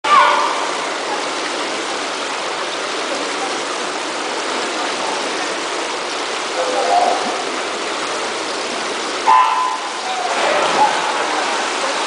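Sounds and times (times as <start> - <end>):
indoor swimming pool ambience: 0.1 - 12.0.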